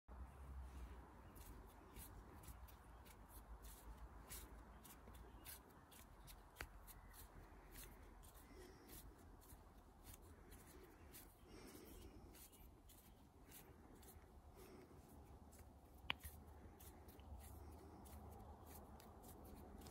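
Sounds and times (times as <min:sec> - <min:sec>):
hands squeezing and rubbing clay: 0:00.7 - 0:19.9.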